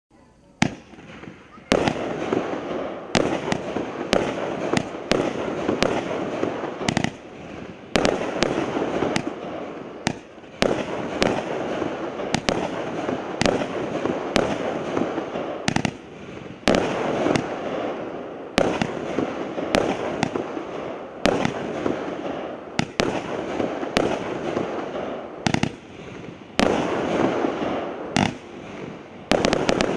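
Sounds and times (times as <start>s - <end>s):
firework hiss: 0.1s - 29.9s
firework bangs: 0.4s - 29.9s.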